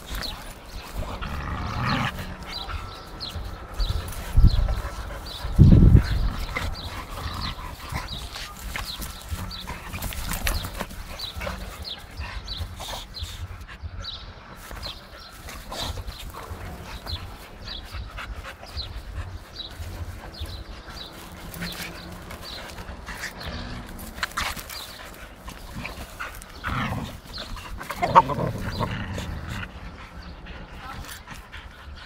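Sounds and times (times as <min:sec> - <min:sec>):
dogs scuffling: 0:00.0 - 0:13.6, 0:14.6 - 0:31.6
dogs panting: 0:00.0 - 0:32.0.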